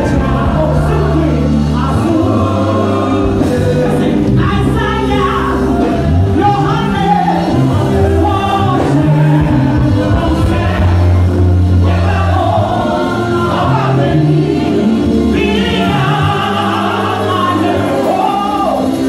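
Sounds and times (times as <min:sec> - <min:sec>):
amplified instrumental backing: 0:00.0 - 0:19.0.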